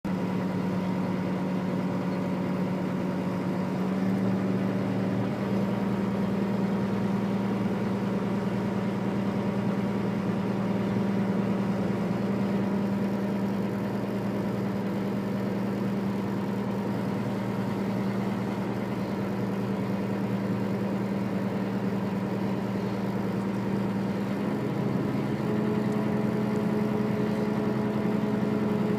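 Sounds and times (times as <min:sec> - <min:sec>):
engine running: 0:00.0 - 0:28.9.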